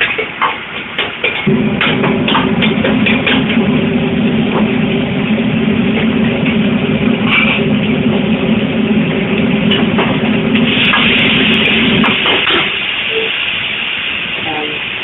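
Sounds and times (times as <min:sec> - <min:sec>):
gas burner roaring: 0:00.0 - 0:15.0
exhaust hood humming: 0:01.5 - 0:14.4.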